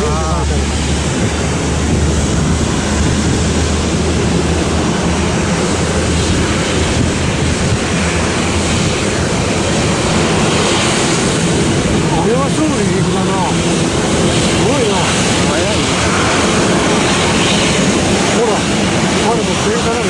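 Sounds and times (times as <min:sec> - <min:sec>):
distant jet engine: 0:00.0 - 0:20.0
wind on microphone: 0:00.0 - 0:20.0.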